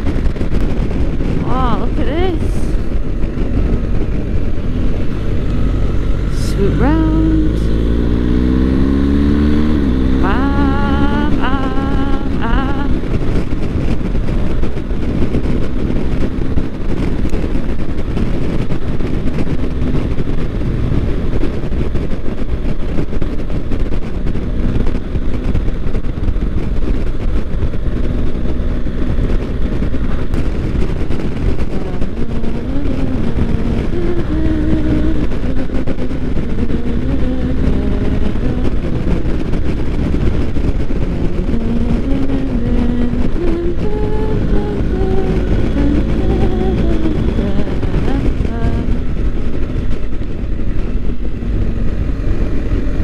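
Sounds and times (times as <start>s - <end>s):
motorcycle engine revving: 0.0s - 53.0s
wind rushing: 0.0s - 53.0s.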